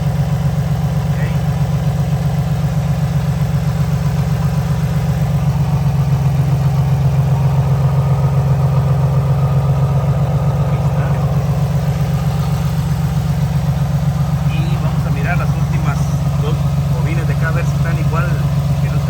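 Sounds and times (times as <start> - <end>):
car engine idling with misfire: 0.0 - 19.0.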